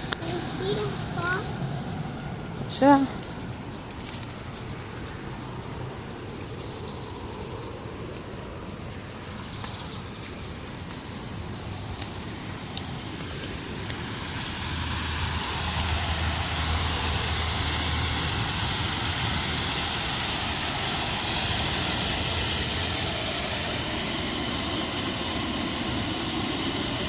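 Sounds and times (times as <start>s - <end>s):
waterfall roaring: 0.0s - 6.4s, 7.0s - 27.0s.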